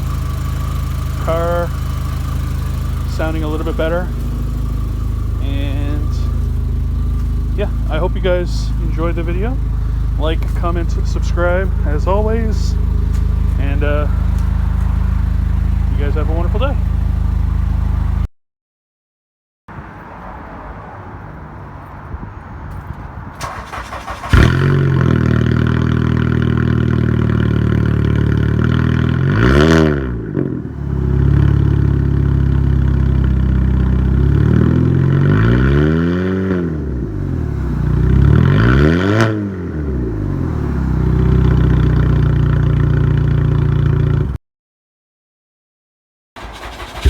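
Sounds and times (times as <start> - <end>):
car engine idling and revving: 0.0 - 18.3, 19.7 - 44.4, 46.4 - 47.0
car engine starting: 0.0 - 18.3, 19.7 - 44.4, 46.4 - 47.0.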